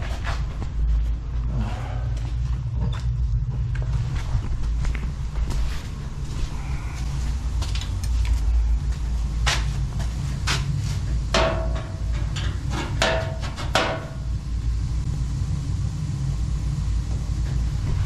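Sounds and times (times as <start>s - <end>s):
steam boiler low rumble: 0.0s - 18.0s.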